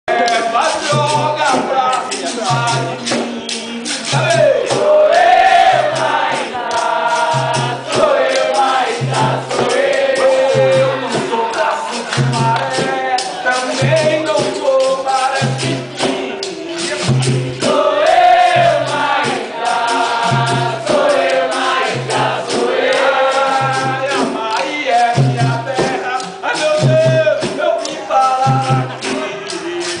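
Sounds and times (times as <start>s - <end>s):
group singing together: 0.1s - 30.0s
hand drum beat: 0.1s - 30.0s.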